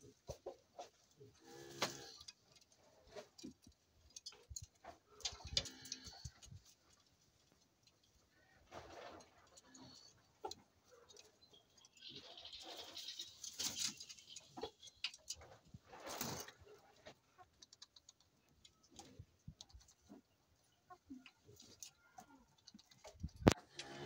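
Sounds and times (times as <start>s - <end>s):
birds tapping and clicking: 0.0s - 24.0s
birds rustling: 0.4s - 24.0s.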